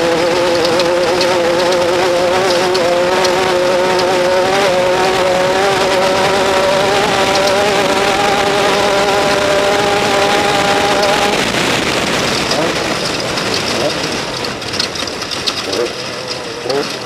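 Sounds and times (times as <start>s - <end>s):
race vehicle engine high revs: 0.0s - 17.0s.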